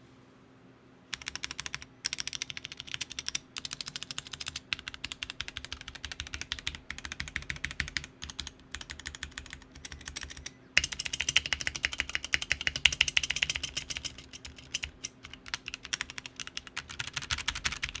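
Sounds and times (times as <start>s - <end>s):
mechanical keyboard typing: 1.1s - 18.0s.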